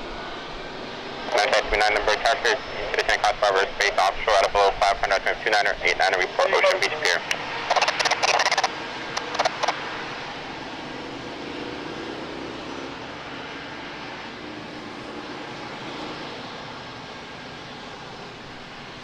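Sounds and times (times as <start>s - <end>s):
distant jet engines: 0.0s - 19.0s.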